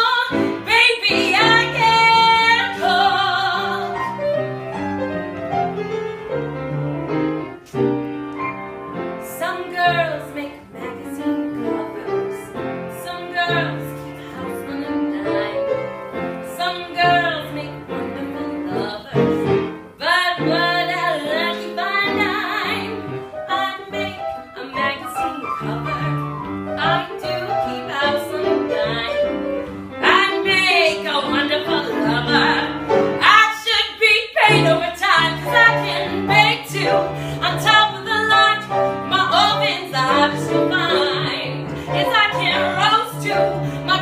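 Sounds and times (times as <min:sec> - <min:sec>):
woman singing: 0:00.0 - 0:04.4, 0:09.2 - 0:44.0
piano accompaniment: 0:00.0 - 0:44.0.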